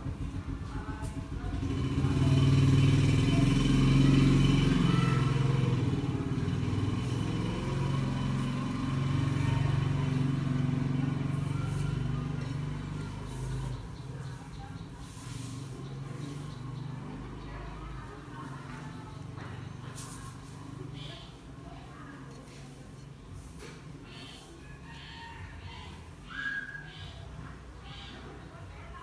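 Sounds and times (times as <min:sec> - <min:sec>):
motorcycle engine passing by: 0:00.0 - 0:29.0.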